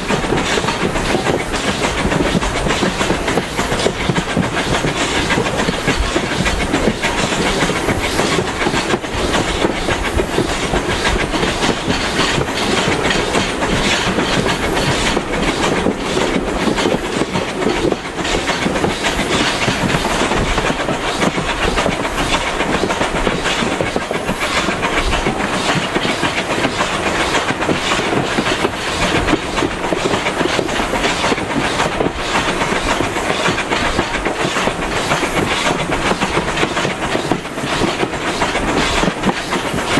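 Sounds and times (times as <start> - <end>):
clickety-clack of rail joints: 0.0 - 39.9
train wheels rumbling on track: 0.0 - 39.9.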